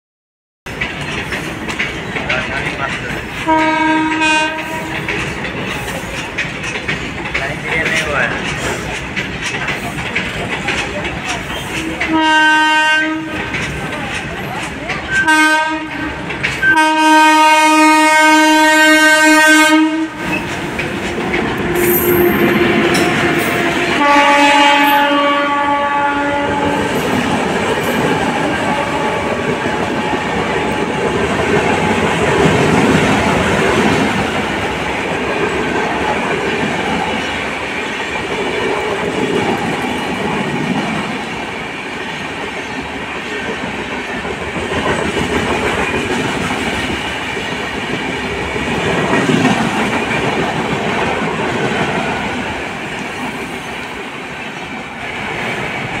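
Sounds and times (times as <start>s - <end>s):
train wheels clattering on rails: 0.7s - 56.0s.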